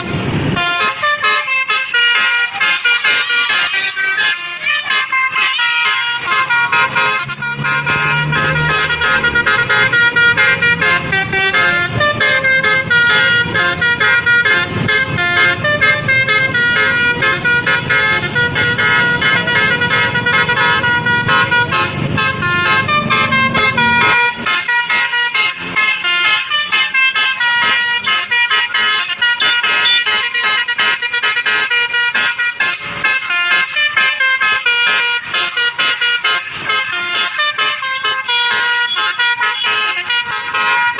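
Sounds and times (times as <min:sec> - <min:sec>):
multi-tone bus horn melody: 0:00.0 - 0:40.9.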